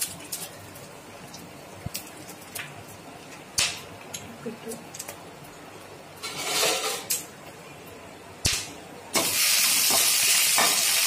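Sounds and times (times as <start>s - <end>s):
chillies sizzling in oil: 0.0s - 7.3s, 8.4s - 11.0s.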